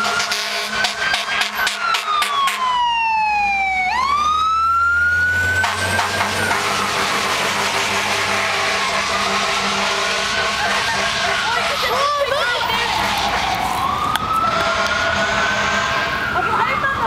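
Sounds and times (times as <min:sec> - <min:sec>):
fire engine siren wailing: 0:00.0 - 0:17.0
truck engine rumble: 0:00.0 - 0:17.0.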